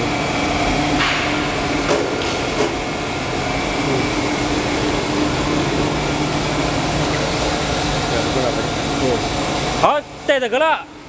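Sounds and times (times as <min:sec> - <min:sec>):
machine drone: 0:00.0 - 0:09.9.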